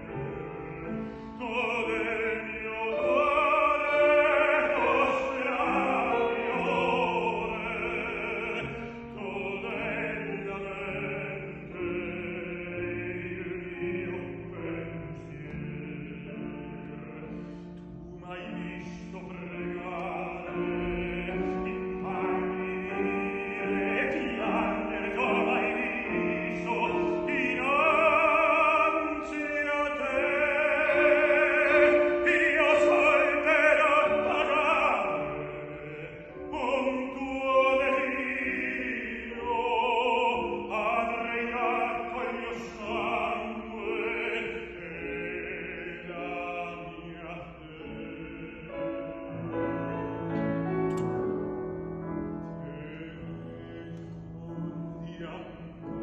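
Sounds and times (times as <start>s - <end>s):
grand piano accompaniment: 0.0s - 56.0s
operatic tenor singing: 0.0s - 56.0s.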